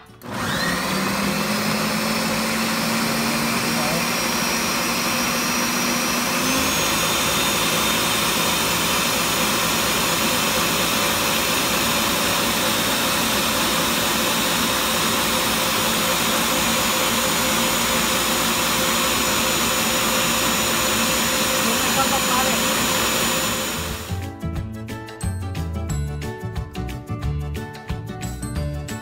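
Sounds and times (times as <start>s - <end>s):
blender running at high speed: 0.0s - 24.2s.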